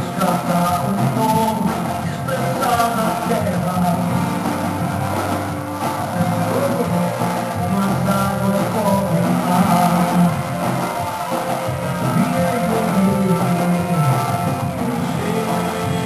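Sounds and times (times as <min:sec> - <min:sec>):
person singing: 0:00.0 - 0:16.0
worship band with guitar: 0:00.0 - 0:16.0.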